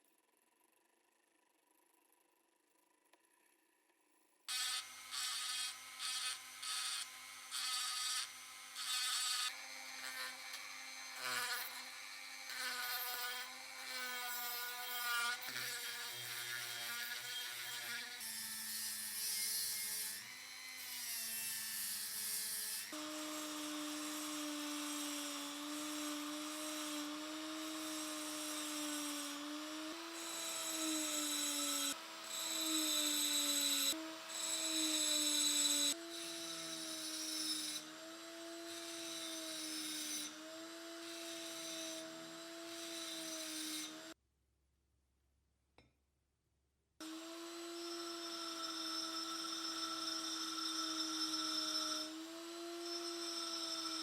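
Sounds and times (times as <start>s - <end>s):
power tool whining on metal: 4.5s - 44.2s, 47.0s - 54.0s.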